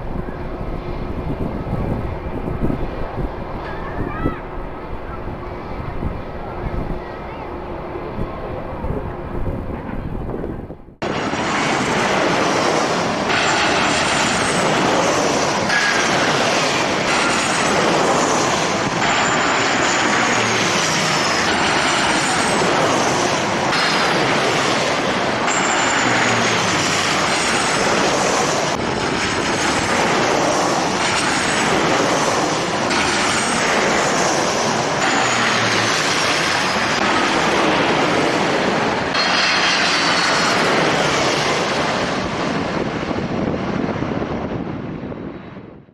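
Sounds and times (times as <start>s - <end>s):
high engine whine sliding down: 0.0s - 43.6s
jet engines roaring: 0.0s - 45.9s.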